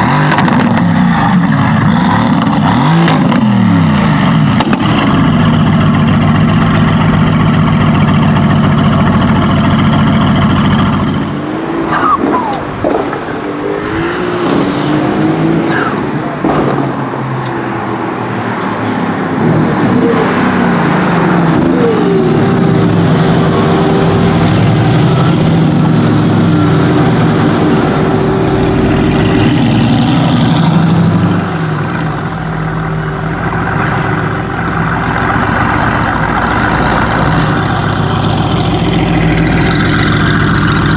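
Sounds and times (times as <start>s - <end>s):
car engine revving: 0.0s - 18.3s, 18.9s - 40.9s.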